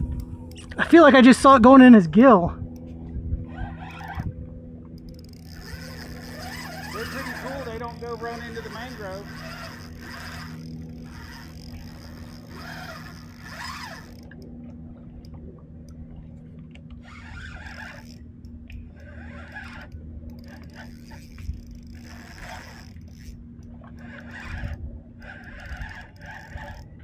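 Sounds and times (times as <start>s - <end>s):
steady low hum: 0.0s - 27.0s
fishing reel cranking: 2.7s - 14.6s, 16.9s - 27.0s.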